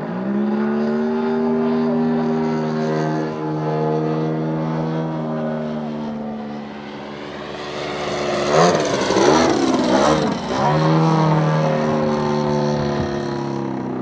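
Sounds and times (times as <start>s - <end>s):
model airplane propeller engine: 0.0s - 14.0s.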